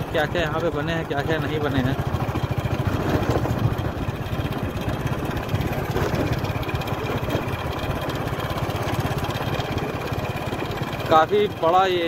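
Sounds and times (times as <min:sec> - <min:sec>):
small vehicle engine running: 0:00.0 - 0:12.0.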